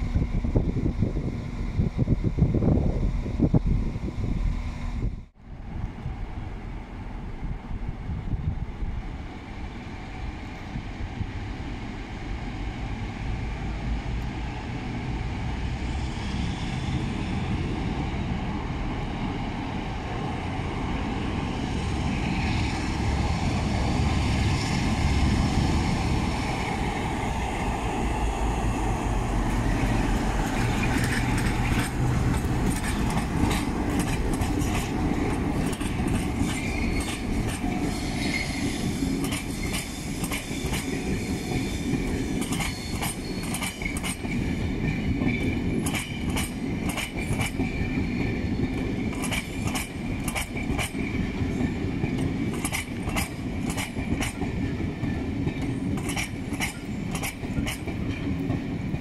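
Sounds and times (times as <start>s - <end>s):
diesel locomotive engines: 0.0s - 59.0s.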